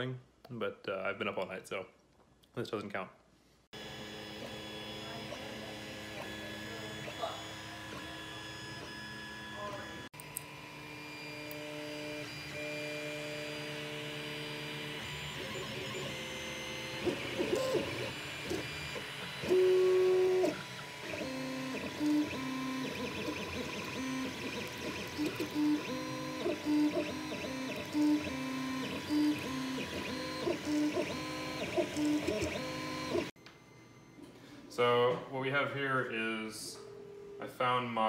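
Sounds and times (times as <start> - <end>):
stepper motors whining: 3.8 - 34.2.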